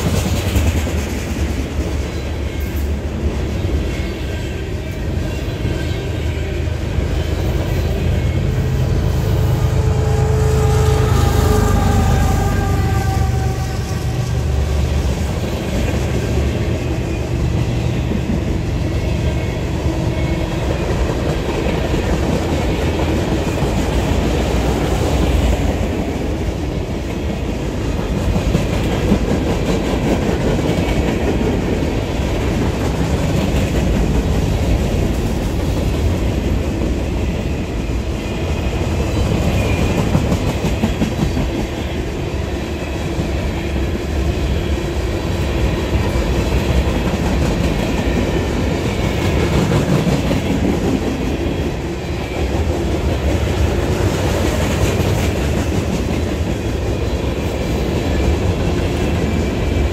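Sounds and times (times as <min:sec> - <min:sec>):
steel wheels clacking on rails: 0:00.0 - 0:09.7, 0:13.3 - 0:59.9
low rumble of train cars: 0:00.0 - 0:59.9.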